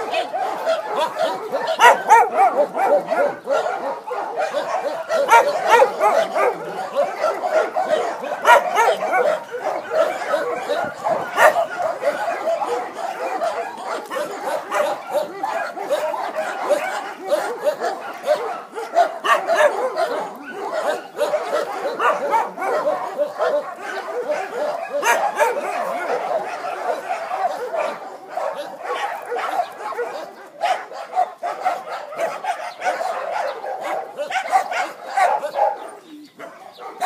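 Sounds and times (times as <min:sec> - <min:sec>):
many dogs barking: 0:00.0 - 0:37.0.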